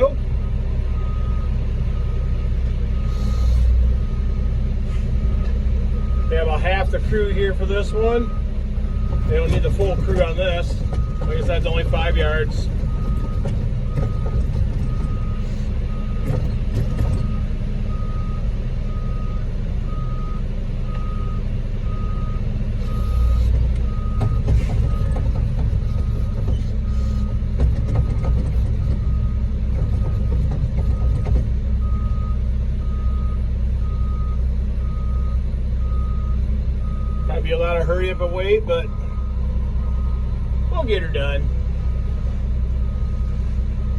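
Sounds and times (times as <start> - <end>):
diesel engine rumble: 0.0 - 43.9
truck backup alarm beeping: 0.0 - 43.9.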